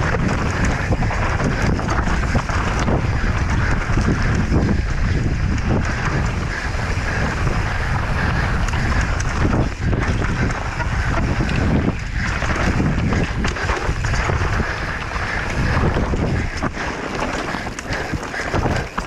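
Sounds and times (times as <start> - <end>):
bike knocking and rattling: 0.0 - 19.0
wind buffeting microphone: 0.0 - 19.0.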